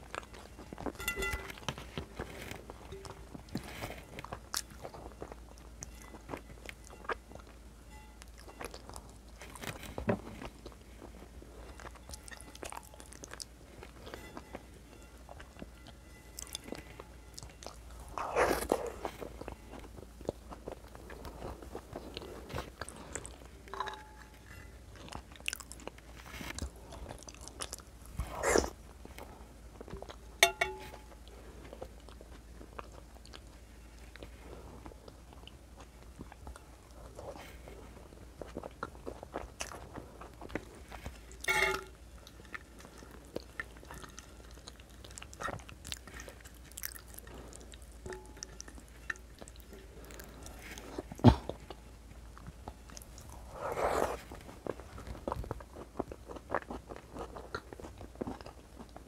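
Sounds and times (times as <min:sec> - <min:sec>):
close chewing: 0:00.0 - 0:59.0.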